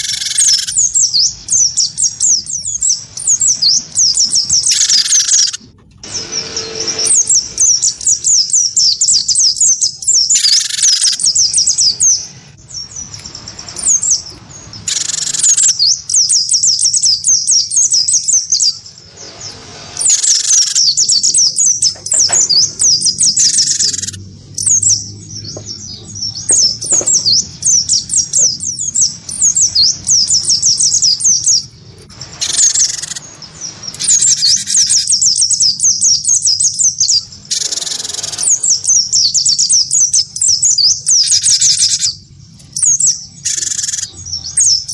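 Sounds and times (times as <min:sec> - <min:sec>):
birds singing high chirps: 0:00.0 - 0:44.9.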